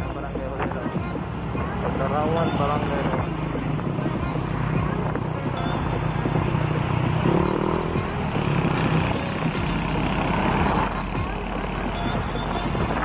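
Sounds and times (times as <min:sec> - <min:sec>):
scooter engine running: 0:00.0 - 0:13.0
wind noise on microphone: 0:00.0 - 0:13.0.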